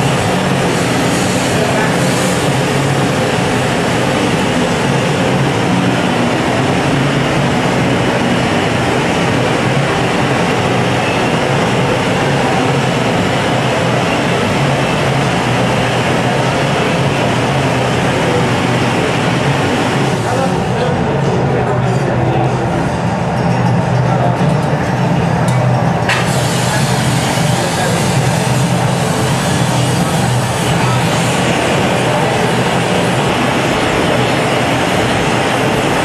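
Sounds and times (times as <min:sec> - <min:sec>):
gas burners and blowers rushing: 0:00.0 - 0:36.0.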